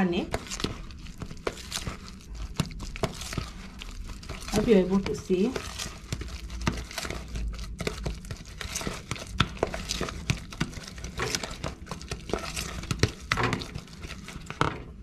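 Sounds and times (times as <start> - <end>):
spoon scraping plastic bowl: 0.0 - 15.0.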